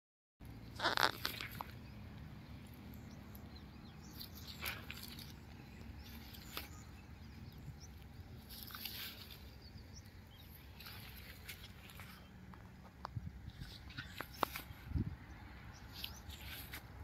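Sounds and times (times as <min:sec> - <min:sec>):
low steady rumble: 0:00.4 - 0:17.0
footsteps crunching dry grass: 0:00.8 - 0:02.9, 0:04.0 - 0:15.0, 0:15.7 - 0:17.0.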